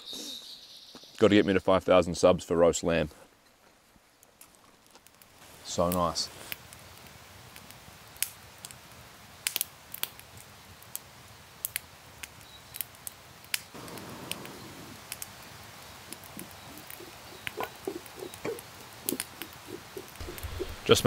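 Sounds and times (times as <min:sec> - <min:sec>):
soft steady hiss: 0:00.6 - 0:21.0
campfire crackling and popping: 0:04.1 - 0:21.0.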